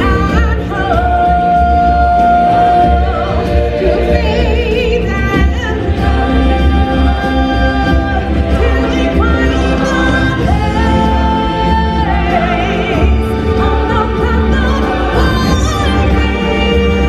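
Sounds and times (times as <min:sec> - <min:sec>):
orchestral backing with bass: 0:00.0 - 0:17.0
voices singing held notes: 0:00.0 - 0:17.0.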